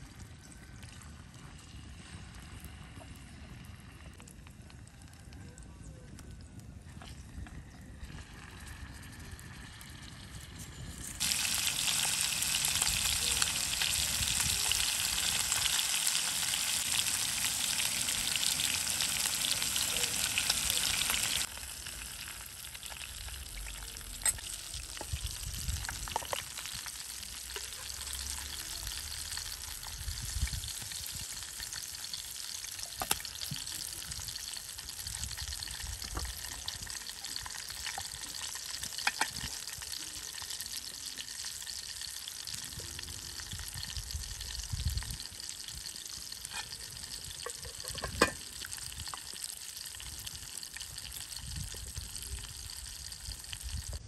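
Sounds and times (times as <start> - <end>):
food sizzling in hot oil: 8.2 - 54.0.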